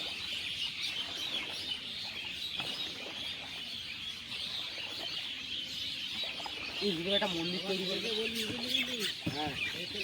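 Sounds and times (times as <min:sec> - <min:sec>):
flock of birds chirping: 0:00.0 - 0:10.0.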